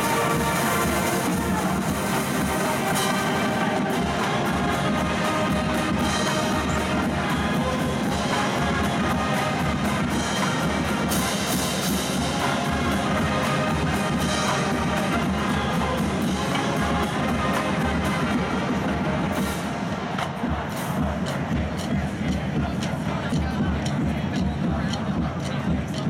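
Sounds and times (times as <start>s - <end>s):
marching band brass: 0.0s - 26.0s
steady drum beat: 0.0s - 26.0s.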